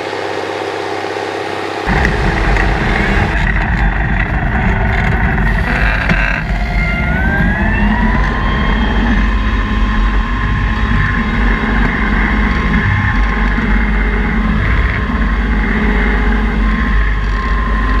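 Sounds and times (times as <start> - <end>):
tractor engine running: 0.0 - 18.0
whine climbing in pitch: 0.0 - 18.0.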